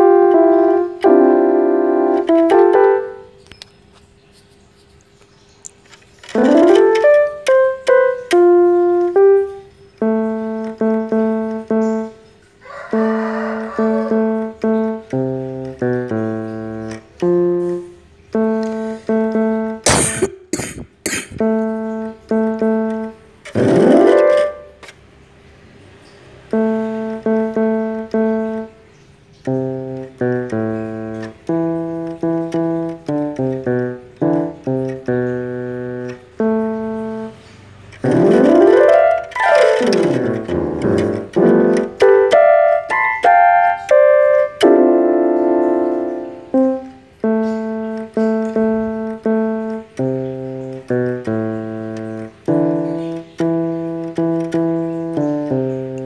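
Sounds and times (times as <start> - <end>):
electronic keyboard piano chords: 0.0 - 56.0.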